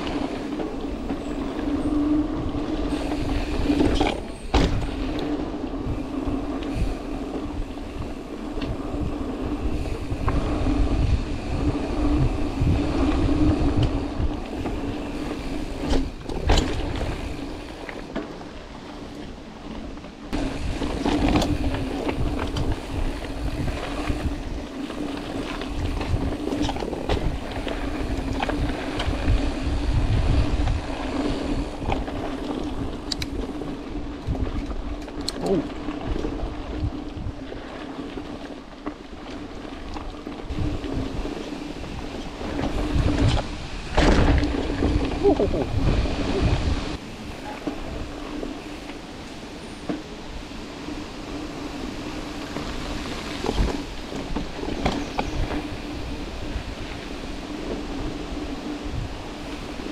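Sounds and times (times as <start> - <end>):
bike knocks and rattles: 0.0 - 6.1, 7.5 - 18.5, 19.8 - 46.8, 52.5 - 57.0
wind on microphone: 0.0 - 18.1, 20.3 - 59.9
bike tyre rumble: 0.0 - 59.9.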